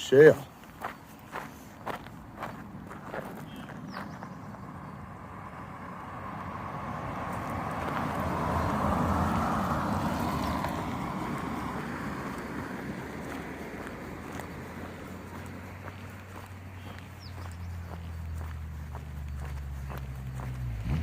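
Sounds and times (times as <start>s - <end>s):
vehicle passing on highway: 0.0s - 21.0s.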